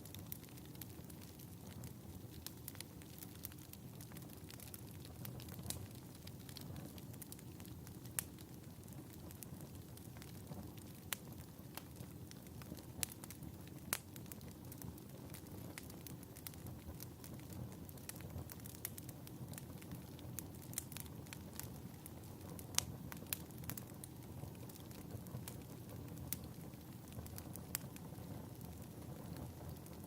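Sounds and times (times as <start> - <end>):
fireplace crackling and popping: 0.0 - 30.0.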